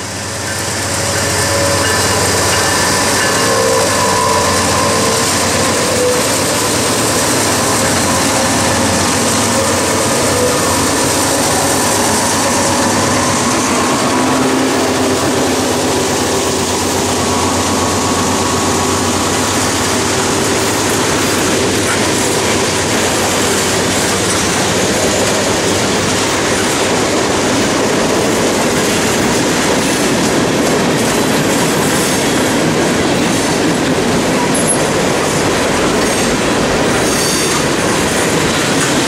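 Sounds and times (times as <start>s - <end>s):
diesel locomotives passing: 0.0s - 39.0s.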